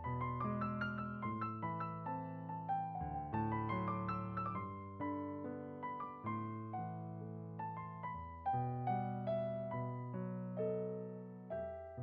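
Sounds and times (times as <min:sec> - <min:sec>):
gentle solo piano piece: 0:00.0 - 0:12.0.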